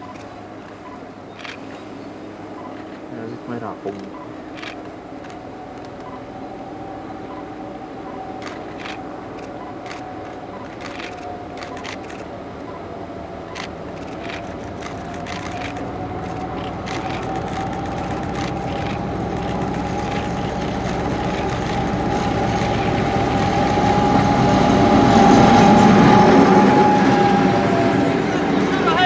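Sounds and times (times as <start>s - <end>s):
high whine: 0.0s - 29.0s
train rumble: 0.0s - 29.0s.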